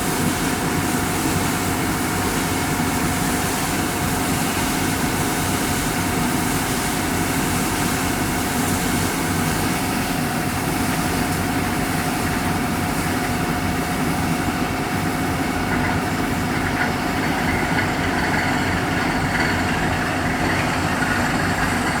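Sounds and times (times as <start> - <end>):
drilling machine engine running: 0.0 - 22.0.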